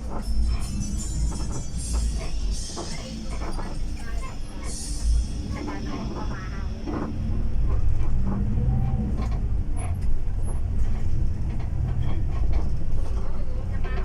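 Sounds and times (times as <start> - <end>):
coach engine and road rumble: 0.0 - 14.0.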